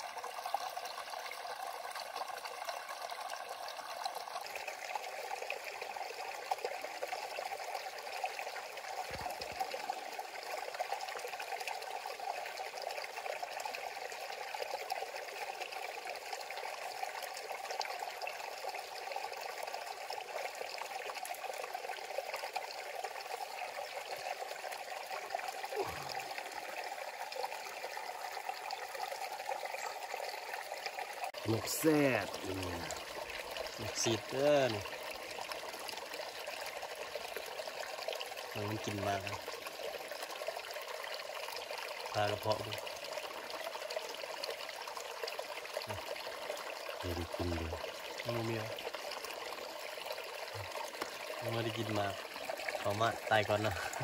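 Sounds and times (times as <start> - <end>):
stream trickling over rocks: 0.0 - 54.0.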